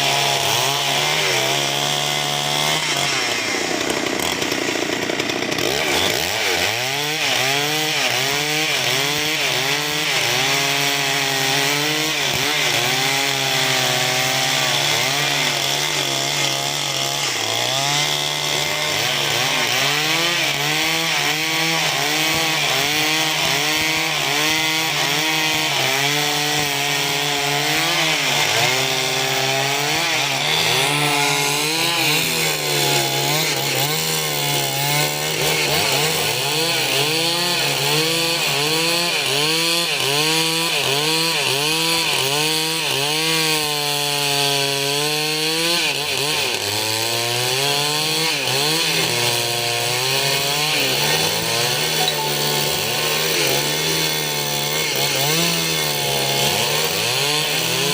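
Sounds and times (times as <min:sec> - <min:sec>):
chainsaw cutting timber: 0:00.0 - 0:57.9.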